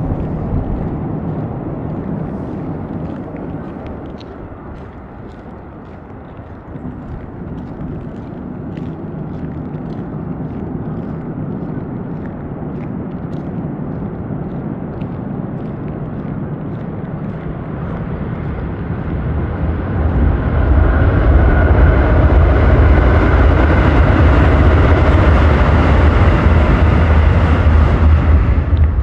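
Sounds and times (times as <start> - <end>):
train rumbling over bridge: 0.0 - 29.0.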